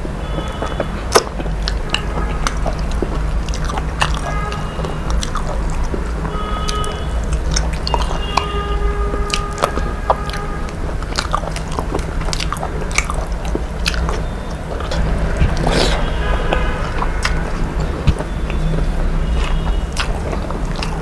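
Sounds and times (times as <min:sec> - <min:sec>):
steady low hum: 0:00.0 - 0:21.0
biting and chewing clicks: 0:00.3 - 0:21.0.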